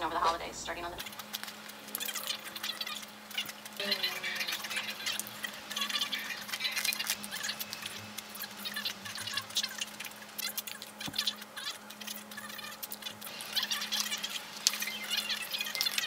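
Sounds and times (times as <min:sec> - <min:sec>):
faint steady hum: 0:00.0 - 0:16.0
chewing and mouth sounds: 0:01.0 - 0:16.0.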